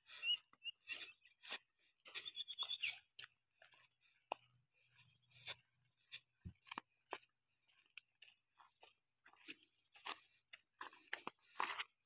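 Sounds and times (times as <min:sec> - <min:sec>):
footsteps on gravel: 0:00.0 - 0:12.0
scuffing on stones: 0:00.8 - 0:12.0.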